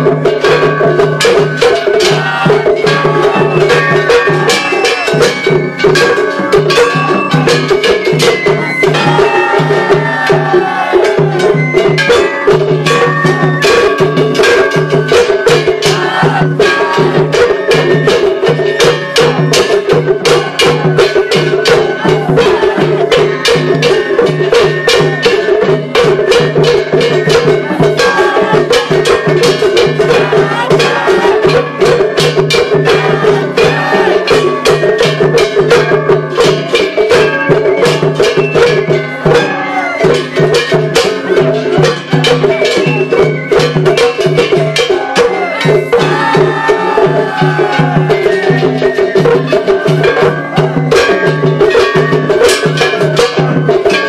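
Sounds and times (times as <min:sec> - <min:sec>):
taiko drums struck rapidly: 0:00.0 - 0:54.0.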